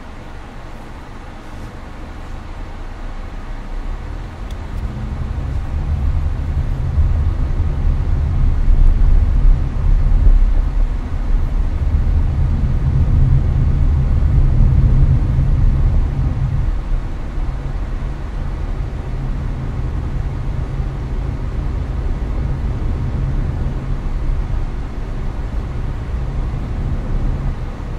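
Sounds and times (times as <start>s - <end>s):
air conditioner blowing: 0.0s - 27.9s
road and engine rumble: 0.0s - 27.9s.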